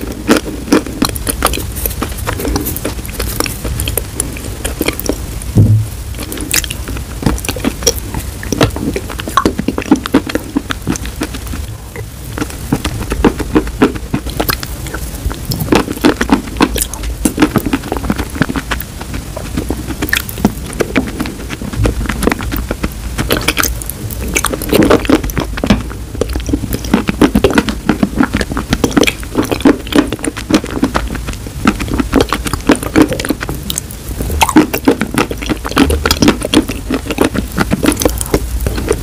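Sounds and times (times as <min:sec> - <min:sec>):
chalk crunching and chewing: 0:00.0 - 0:05.3, 0:06.2 - 0:39.0.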